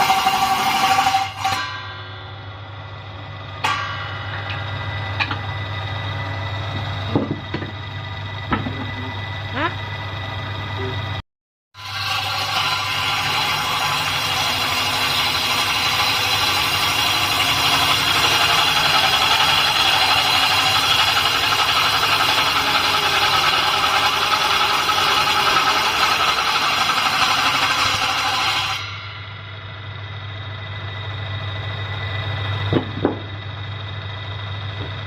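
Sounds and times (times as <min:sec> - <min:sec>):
woodworking saw machine whining: 0:00.0 - 0:11.2, 0:11.8 - 0:35.0.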